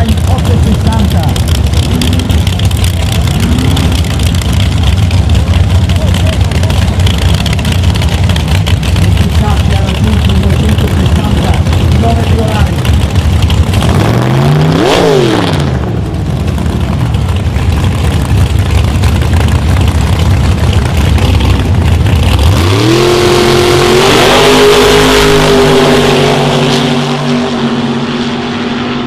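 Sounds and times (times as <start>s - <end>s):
drag-racing engines revving: 0.0s - 29.0s.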